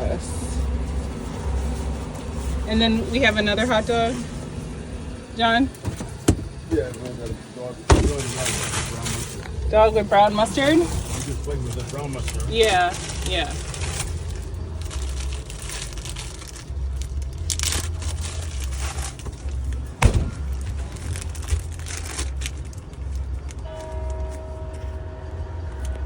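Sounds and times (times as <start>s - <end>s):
pulsing low hum: 0.0s - 26.0s
crackling and rustling: 0.2s - 25.1s.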